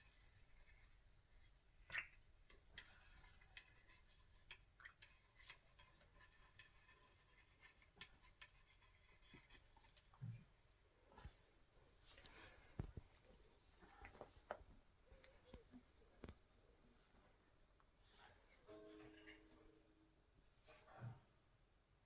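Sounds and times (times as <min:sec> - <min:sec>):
faint small clicks and scrapes: 0:00.0 - 0:19.5.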